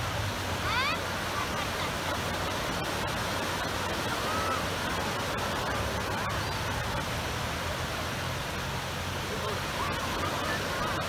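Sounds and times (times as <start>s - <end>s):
waves washing onto beach: 0.0s - 11.0s
faint distant voices: 0.6s - 11.0s.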